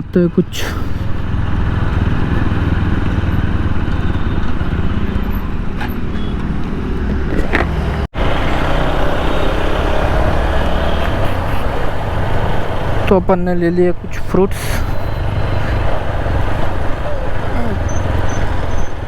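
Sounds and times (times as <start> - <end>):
wind and road noise: 0.0 - 19.0
motorcycle engine running: 0.9 - 19.0.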